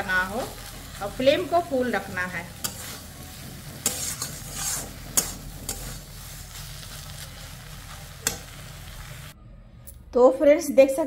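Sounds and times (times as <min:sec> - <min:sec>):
spatula scraping a pan: 0:00.0 - 0:09.3
vegetables sizzling in a pan: 0:00.0 - 0:09.4.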